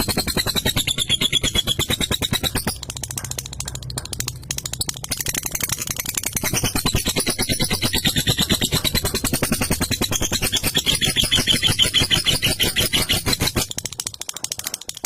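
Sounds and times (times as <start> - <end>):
lovebird chattering: 0.0 - 15.0.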